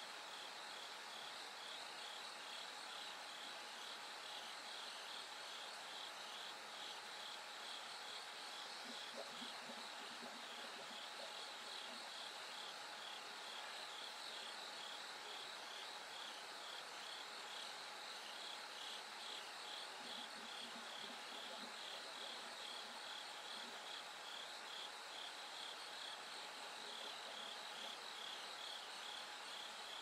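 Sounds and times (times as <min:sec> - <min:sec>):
crickets chirping: 0:00.2 - 0:30.0
insects trilling: 0:00.2 - 0:30.0.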